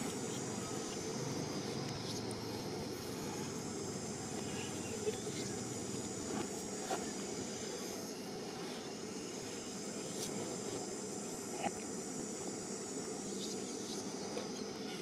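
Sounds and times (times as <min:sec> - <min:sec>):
thin high hiss: 0:00.0 - 0:15.0.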